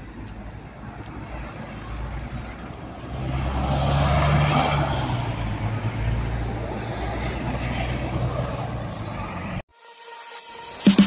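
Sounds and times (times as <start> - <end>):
bus engine droning: 0.0 - 9.7.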